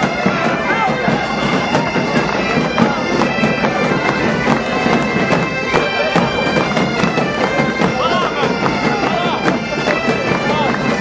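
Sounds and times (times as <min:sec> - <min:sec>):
bagpipes playing over drone: 0:00.0 - 0:11.0
bass drum beating: 0:00.0 - 0:11.0
snare drums: 0:00.0 - 0:11.0.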